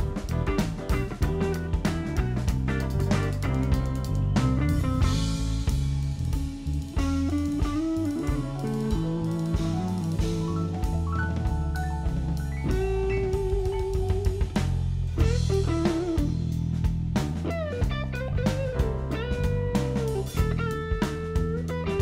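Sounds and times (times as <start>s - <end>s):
bass guitar: 0.0s - 22.0s
drum kit: 0.0s - 22.0s
lead electric guitar bending notes: 0.0s - 22.0s.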